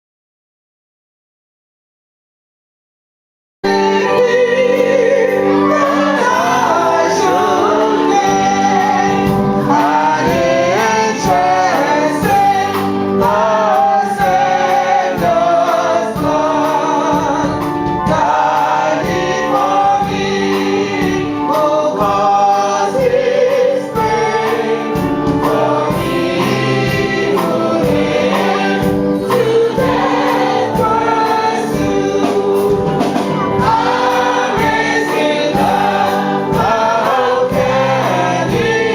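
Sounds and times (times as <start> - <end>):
choir singing gospel: 3.6 - 38.9.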